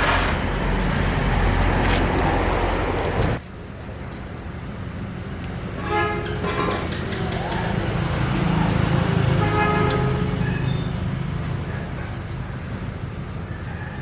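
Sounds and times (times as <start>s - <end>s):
engine running: 0.0s - 13.5s.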